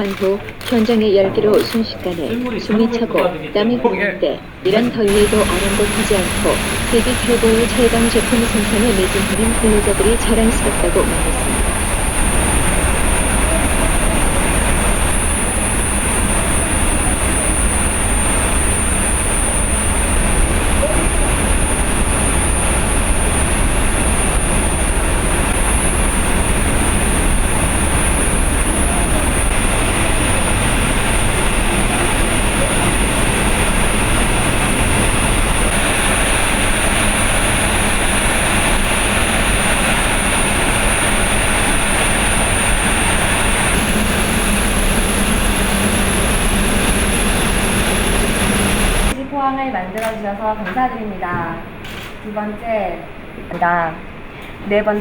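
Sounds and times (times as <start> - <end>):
industrial machinery roar: 4.6 - 49.2
high-pitched whine: 4.8 - 49.2.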